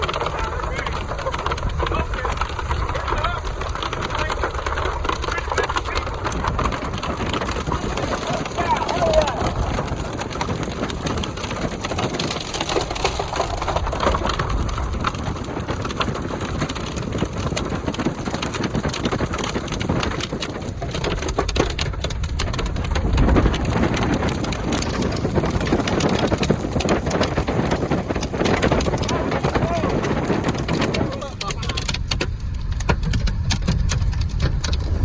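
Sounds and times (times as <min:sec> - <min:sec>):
heavy rain on vehicle roof: 0:00.0 - 0:35.0
road rumble: 0:00.0 - 0:35.0.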